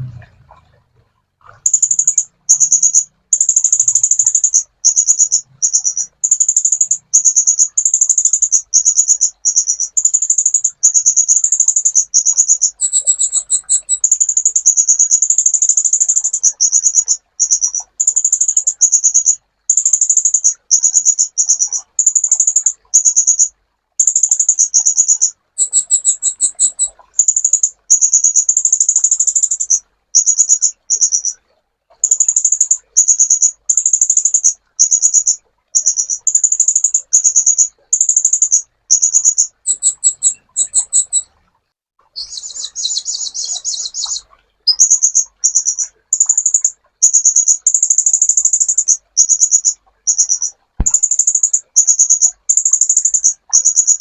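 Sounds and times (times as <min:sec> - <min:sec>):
bird high buzzy trills: 0:01.5 - 0:31.4, 0:32.0 - 0:41.4, 0:42.1 - 0:54.0.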